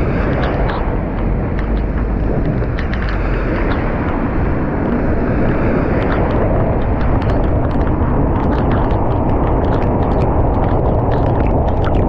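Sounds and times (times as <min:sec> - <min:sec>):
tyre and road noise: 0:00.0 - 0:12.0.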